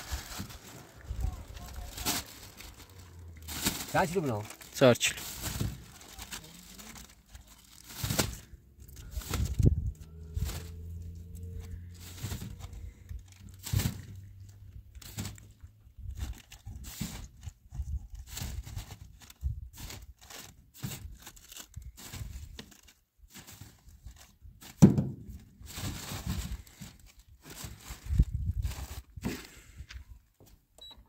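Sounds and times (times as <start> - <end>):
rustling tearing and crackling: 0.0 - 24.8, 25.6 - 29.2.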